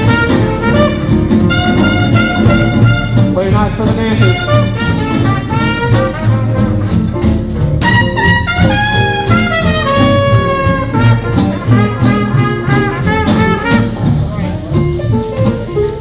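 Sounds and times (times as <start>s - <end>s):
brass lead with bending notes: 0.0s - 16.0s
swing jazz band playing: 0.0s - 16.0s.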